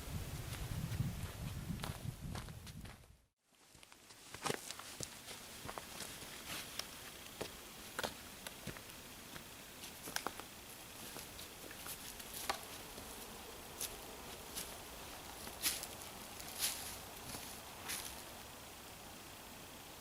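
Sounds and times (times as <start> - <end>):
faint steady background noise: 3.5 - 20.0.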